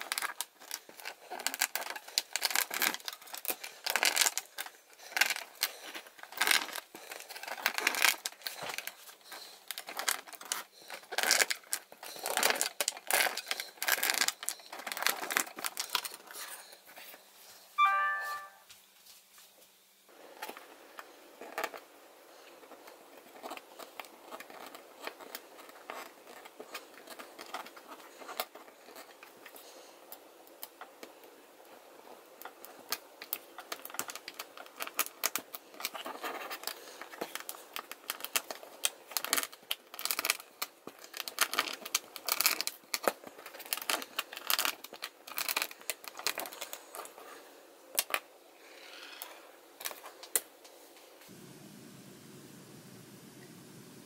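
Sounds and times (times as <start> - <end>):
wire mesh scratching and crinkling: 0.0 - 17.6, 20.4 - 48.2.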